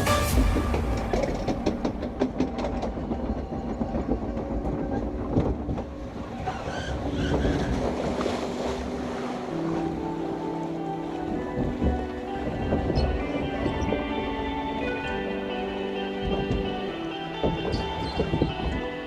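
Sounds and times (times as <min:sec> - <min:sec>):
boat rattling along track: 0:00.0 - 0:19.0.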